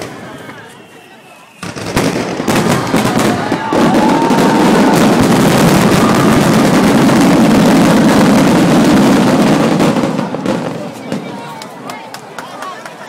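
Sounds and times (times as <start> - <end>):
fireworks barrage: 0.0 - 13.0.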